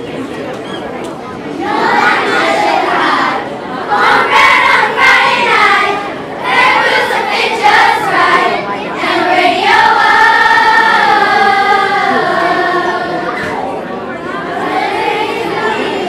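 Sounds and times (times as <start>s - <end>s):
children's choir singing a cappella: 1.4s - 16.0s.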